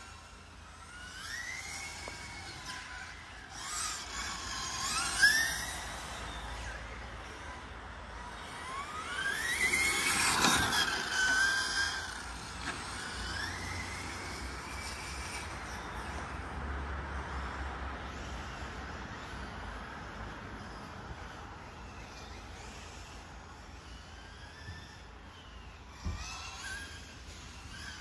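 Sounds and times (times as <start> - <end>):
radio-controlled car whine: 0.0 - 28.0.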